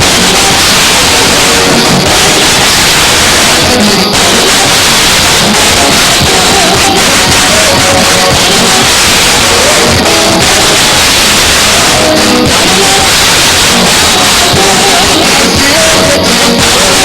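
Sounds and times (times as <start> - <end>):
band playing praise music: 0.0 - 17.0.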